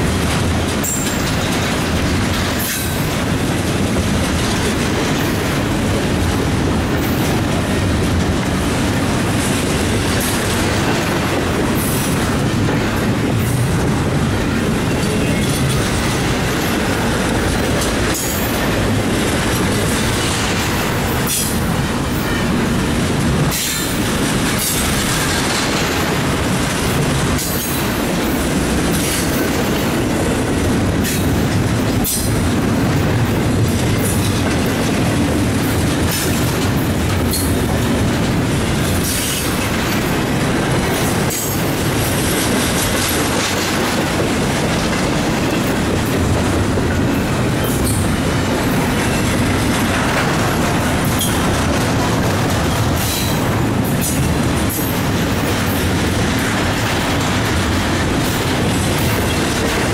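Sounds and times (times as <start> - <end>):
train wheels rumbling on rails: 0.0 - 59.9
wheels clicking over rail joints: 0.0 - 59.9.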